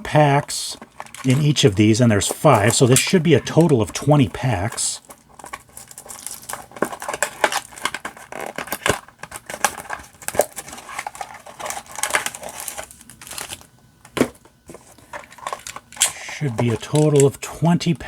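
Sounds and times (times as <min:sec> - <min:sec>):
foil packs crinkling: 0:00.0 - 0:17.4
cardboard boxes rustling: 0:00.8 - 0:17.3.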